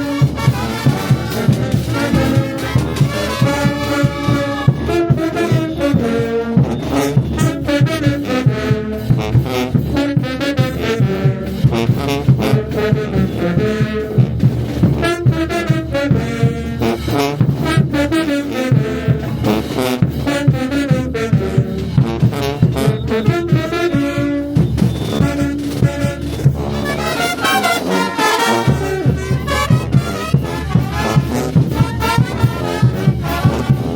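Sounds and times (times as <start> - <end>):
brass band playing: 0.0 - 33.9
drums beating: 0.0 - 33.9.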